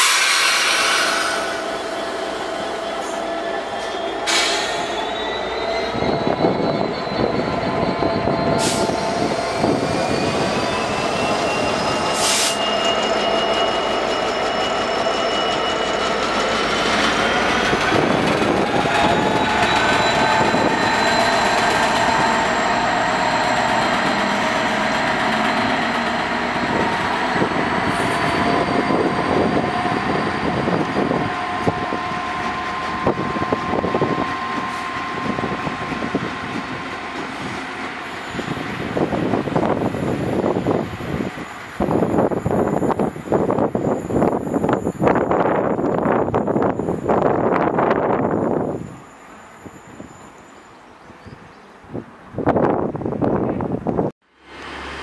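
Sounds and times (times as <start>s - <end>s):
wheels squealing: 0.0s - 51.1s
diesel locomotive engines: 0.0s - 55.0s.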